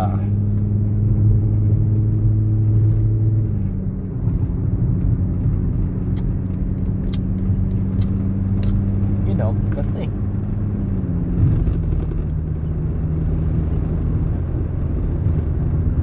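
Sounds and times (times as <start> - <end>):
car engine hum: 0.0 - 16.0
low tyre rumble: 0.0 - 16.0.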